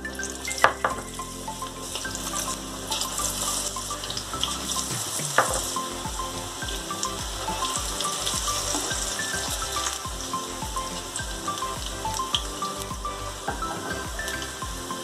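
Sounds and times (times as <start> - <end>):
batter deep-frying in hot oil: 1.1 - 15.0.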